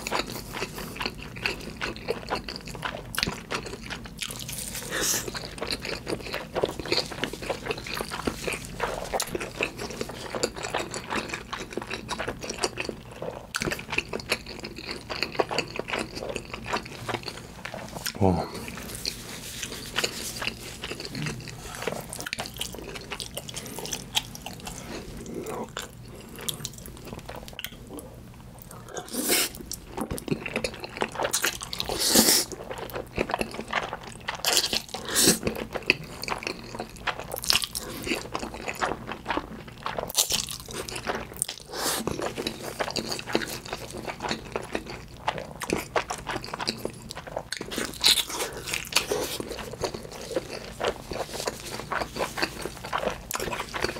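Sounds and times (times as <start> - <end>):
person slurping and chewing noodles: 0.0 - 28.1, 28.7 - 53.9.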